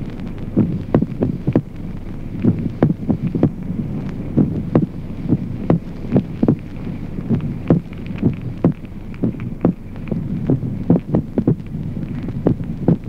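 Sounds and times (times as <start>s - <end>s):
heartbeat thumps: 0.0s - 13.0s
steady low hum: 0.0s - 13.0s.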